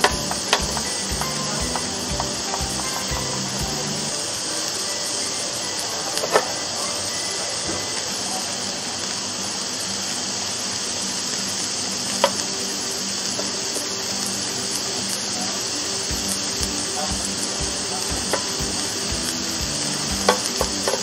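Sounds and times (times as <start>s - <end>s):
vegetables sizzling on grill: 0.0s - 21.0s.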